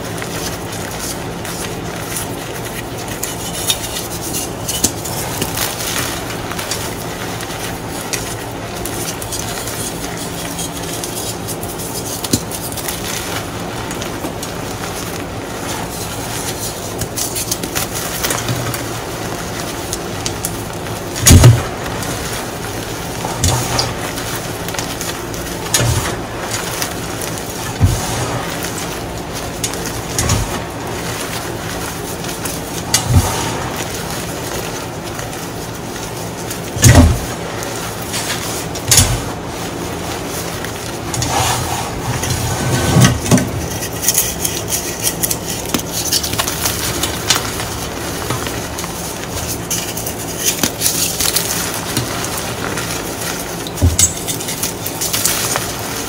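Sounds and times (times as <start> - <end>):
chalk crunching and crackling: 0.0 - 56.0.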